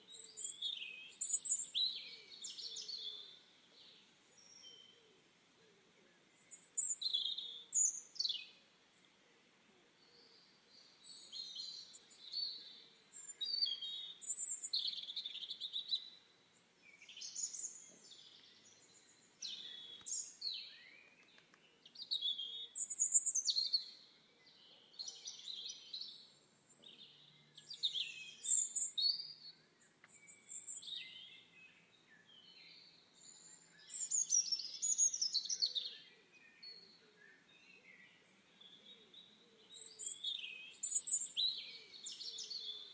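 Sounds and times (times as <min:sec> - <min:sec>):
songbirds chirping and whistling: 0:00.0 - 0:09.2, 0:09.9 - 0:42.9.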